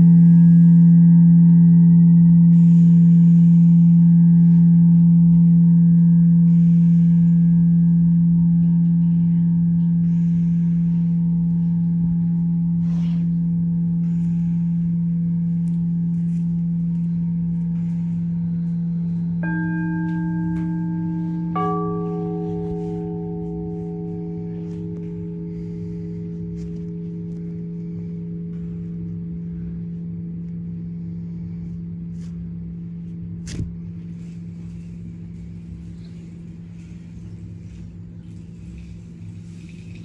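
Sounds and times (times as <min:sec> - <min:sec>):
deep singing bowl ringing: 0:00.0 - 0:40.0
higher singing bowl struck: 0:00.0 - 0:40.0.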